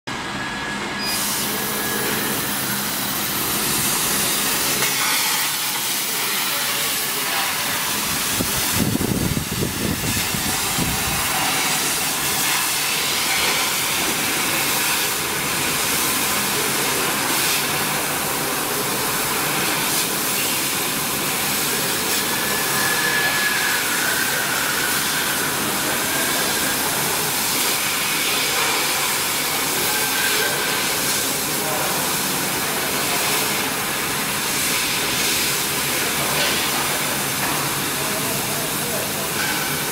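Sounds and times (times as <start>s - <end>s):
laser cutter air and fans hissing: 0.1s - 39.9s.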